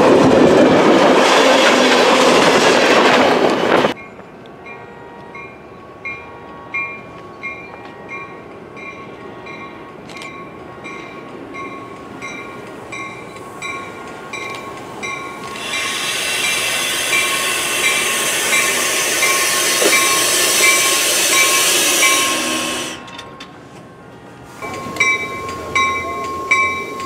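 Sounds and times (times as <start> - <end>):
train rushing past: 0.0 - 27.0
railroad crossing bell dinging: 3.9 - 27.0.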